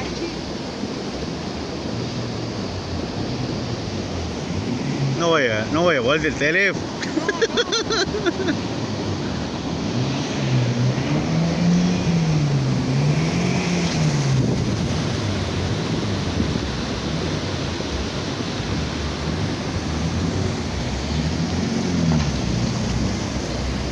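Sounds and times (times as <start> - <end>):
floodwater rushing: 0.0 - 23.9.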